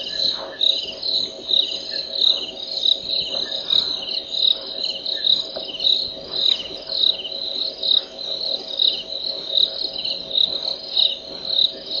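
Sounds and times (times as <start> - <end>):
continuous high ringing: 0.0 - 12.0
crickets chirping: 0.0 - 12.0.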